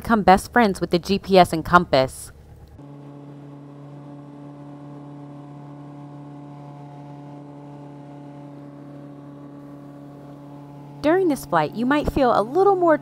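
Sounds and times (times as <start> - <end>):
propeller plane engine droning: 0.2 - 13.0.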